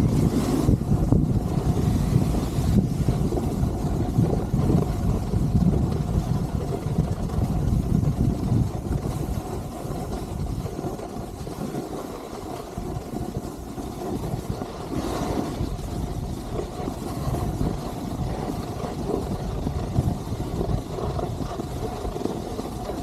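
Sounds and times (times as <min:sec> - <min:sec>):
skis scraping on snow: 0:00.0 - 0:23.0
wind rumbling on microphone: 0:00.0 - 0:23.0.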